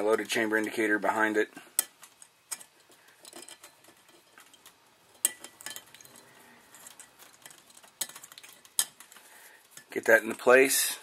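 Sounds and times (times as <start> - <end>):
small steel parts clicking: 0.0 - 10.6.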